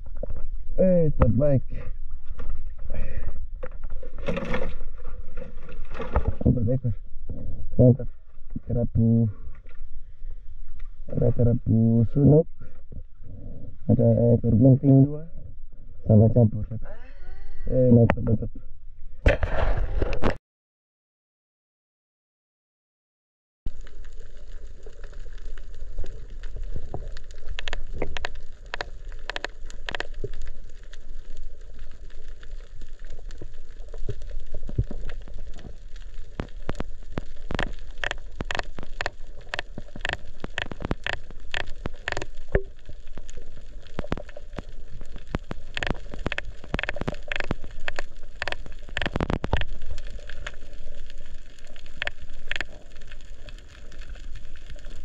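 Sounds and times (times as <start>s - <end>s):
low water rumble: 0.0s - 20.4s, 23.7s - 55.0s.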